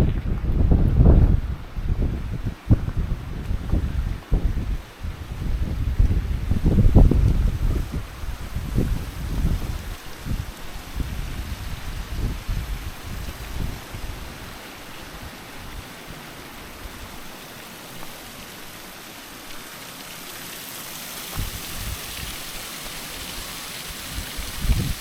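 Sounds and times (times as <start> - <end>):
waterfall flowing water: 2.8 - 25.0.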